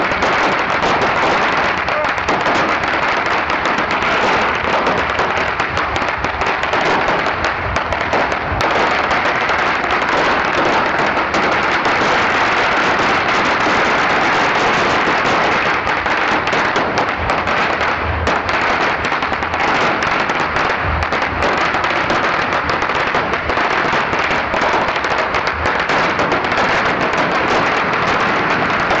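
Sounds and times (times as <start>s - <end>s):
string of firecrackers crackling: 0.0s - 29.0s.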